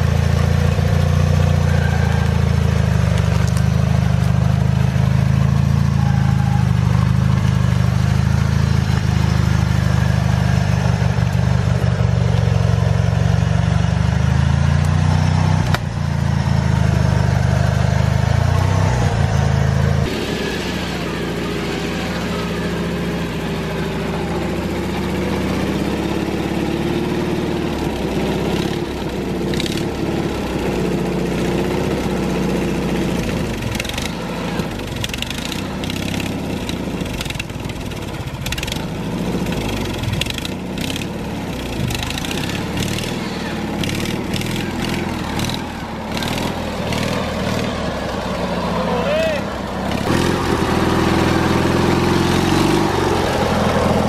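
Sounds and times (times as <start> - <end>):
lawn mower engines running: 0.0 - 54.0
quieter mower engine: 0.0 - 54.0.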